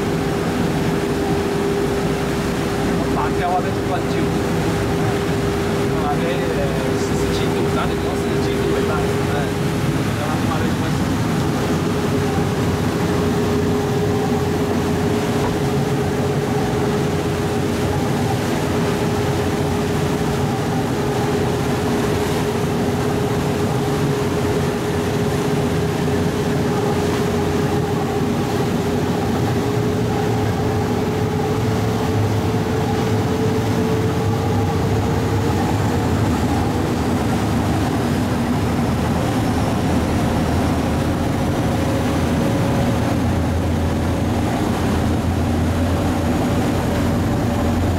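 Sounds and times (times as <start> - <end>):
ferry engine drone: 0.0 - 47.9.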